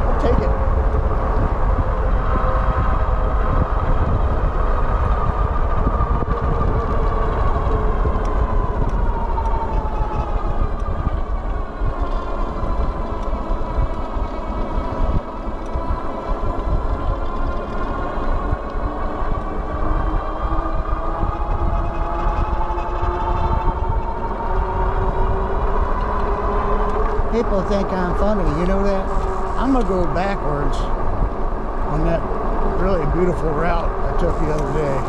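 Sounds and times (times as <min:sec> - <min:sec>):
low rumble: 0:00.0 - 0:35.0.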